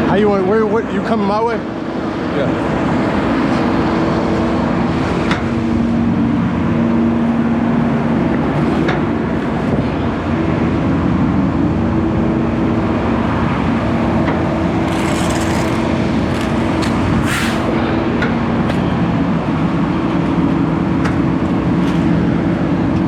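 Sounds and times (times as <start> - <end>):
garbage truck compactor hum: 0.0 - 23.0.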